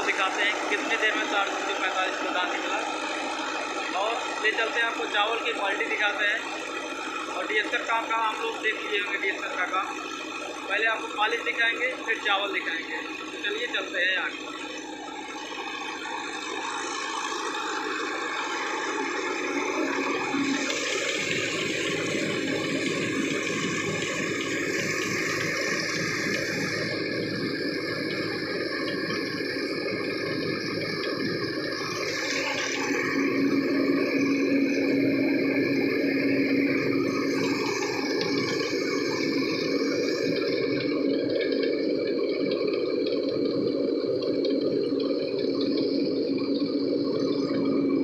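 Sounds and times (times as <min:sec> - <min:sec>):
rice mill running: 0:00.0 - 0:48.0.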